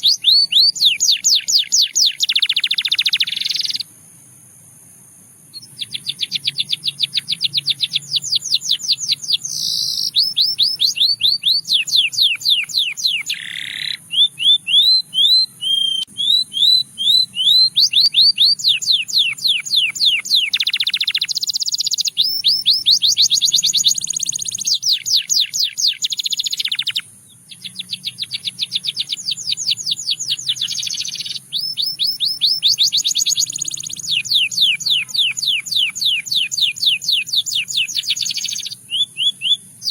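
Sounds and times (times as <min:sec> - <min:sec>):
canary singing rapid trills: 0:00.0 - 0:03.9, 0:05.5 - 0:39.9.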